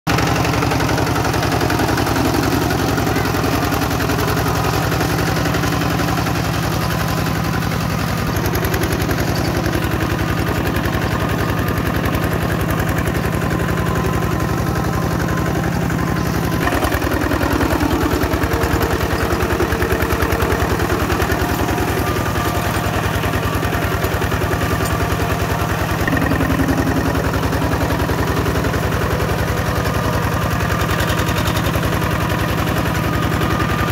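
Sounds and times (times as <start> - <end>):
diesel engine clattering: 0.1 - 33.9.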